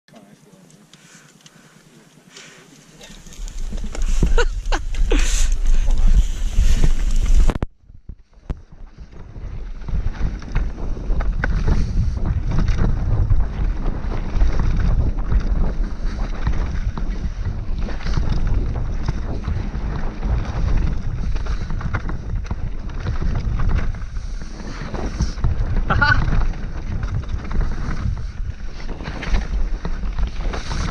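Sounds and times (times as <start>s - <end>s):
bike tyre noise: 0.5s - 30.9s
bike knocking and rattling: 3.0s - 30.9s
wind buffeting microphone: 3.0s - 30.9s.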